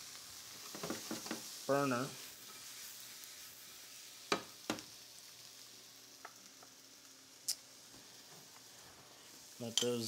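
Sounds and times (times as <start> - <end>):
mushrooms sizzling in a pan: 0.0 - 10.0.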